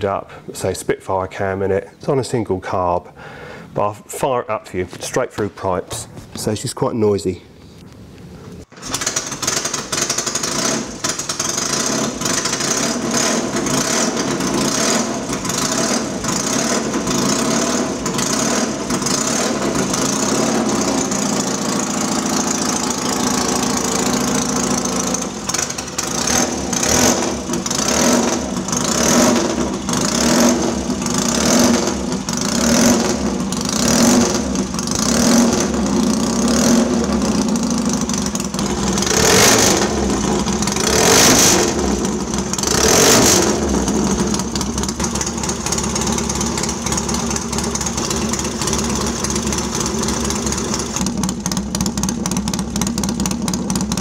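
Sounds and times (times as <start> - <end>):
motorcycle engine revving: 8.7 - 54.0.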